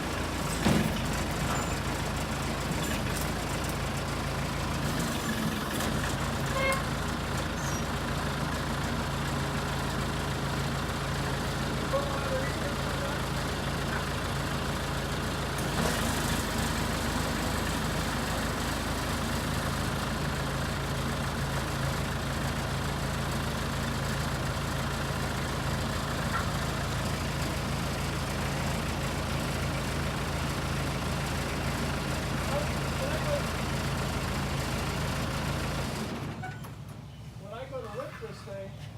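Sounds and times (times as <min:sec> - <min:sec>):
backhoe engine idling: 0:00.0 - 0:38.9.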